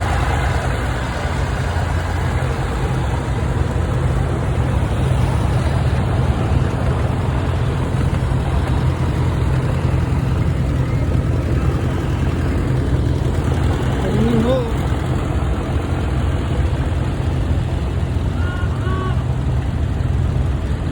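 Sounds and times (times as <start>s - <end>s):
machinery engines running: 0.0s - 20.9s.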